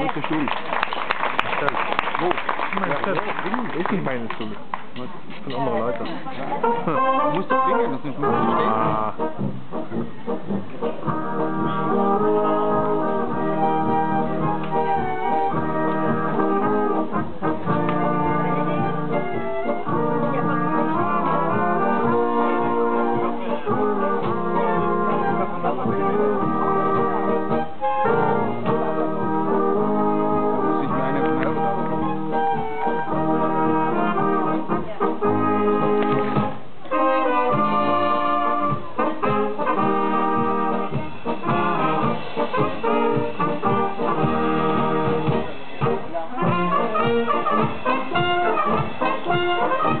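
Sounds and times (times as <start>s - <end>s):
brass band playing: 5.6s - 50.0s.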